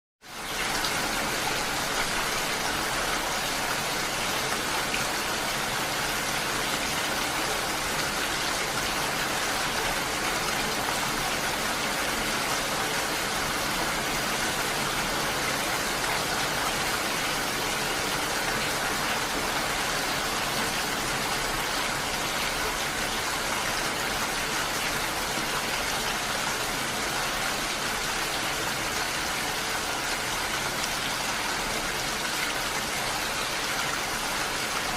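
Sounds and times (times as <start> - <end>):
steady rainfall: 0.2 - 34.9.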